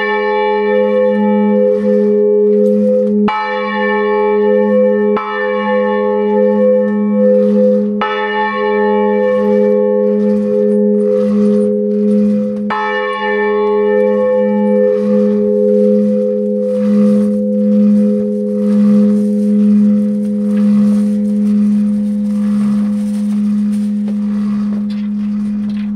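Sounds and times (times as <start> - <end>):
low bell hum: 0.0 - 25.9.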